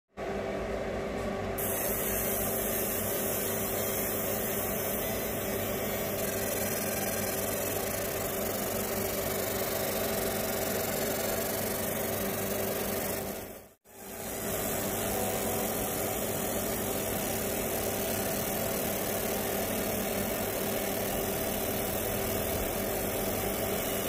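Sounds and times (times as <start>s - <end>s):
laser engraver hissing: 1.6s - 24.0s.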